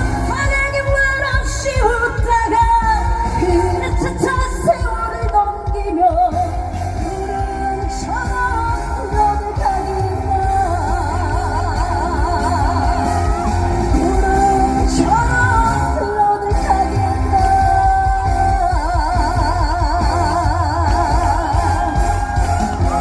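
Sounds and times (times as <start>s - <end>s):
backing track with heavy bass: 0.0s - 23.0s
woman singing with vibrato: 0.0s - 23.0s.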